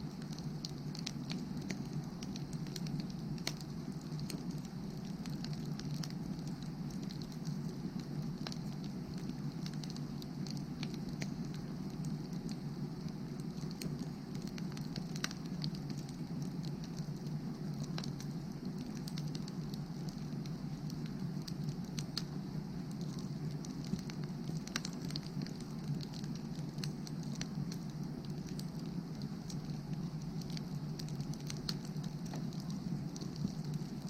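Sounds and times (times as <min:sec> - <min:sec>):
firewood crackling and popping: 0:00.0 - 0:34.0.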